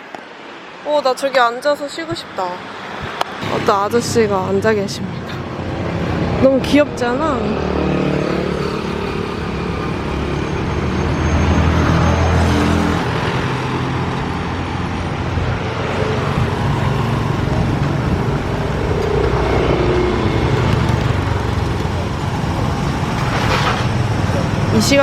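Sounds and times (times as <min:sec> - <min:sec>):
traffic rumble: 0:00.0 - 0:25.0
loud vehicle passing: 0:02.2 - 0:25.0.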